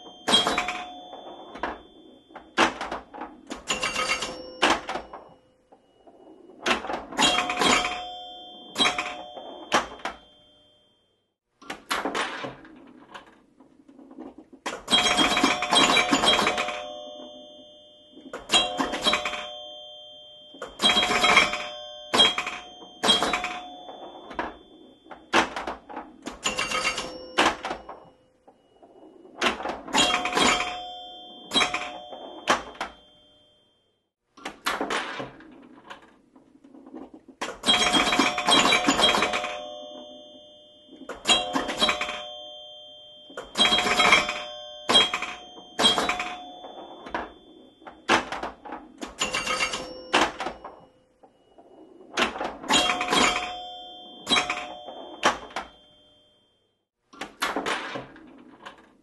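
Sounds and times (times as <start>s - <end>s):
pinball flippers clacking: 0.0s - 5.4s, 11.6s - 28.6s, 29.2s - 33.2s, 34.4s - 50.9s, 51.6s - 56.2s
pinball bell chimes: 0.0s - 11.3s, 14.1s - 34.0s, 35.0s - 56.8s.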